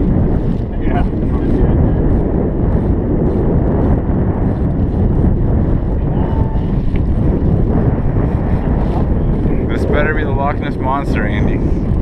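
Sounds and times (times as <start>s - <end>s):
boat motor running: 0.0s - 12.0s
wind buffeting microphone: 0.0s - 12.0s.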